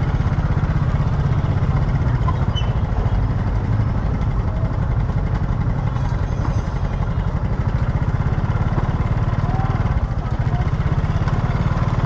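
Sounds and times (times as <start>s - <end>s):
motorbike engine idling: 0.0s - 12.0s.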